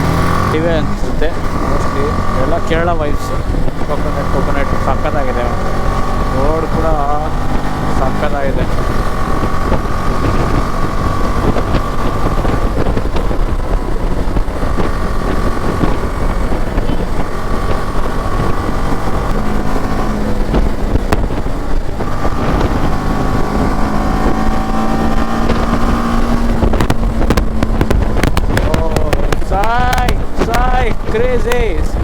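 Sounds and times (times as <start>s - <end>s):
motorcycle engine running: 0.0s - 32.0s
wind rush on microphone: 0.0s - 32.0s.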